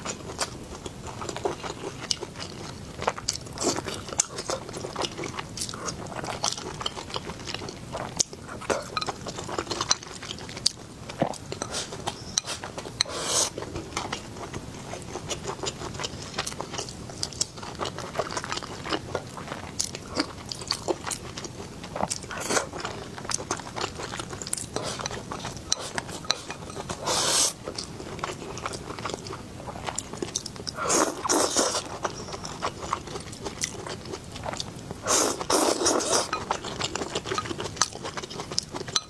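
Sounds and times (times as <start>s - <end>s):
chewing crisp food: 0.0s - 39.0s.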